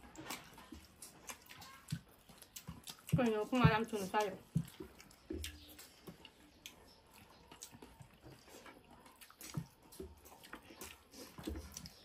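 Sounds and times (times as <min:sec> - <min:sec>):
fingers mixing rice on plates: 0:00.0 - 0:12.0
soft chewing: 0:00.0 - 0:12.0.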